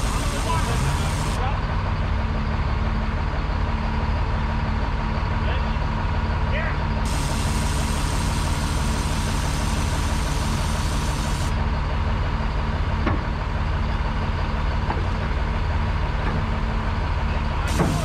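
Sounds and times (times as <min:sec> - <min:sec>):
heavy diesel equipment running: 0:00.0 - 0:18.0.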